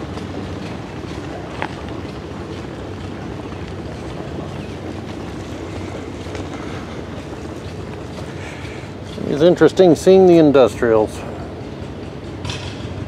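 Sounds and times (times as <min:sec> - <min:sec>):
low outdoor rumble: 0:00.0 - 0:13.0
wind buffeting microphone: 0:00.0 - 0:13.0.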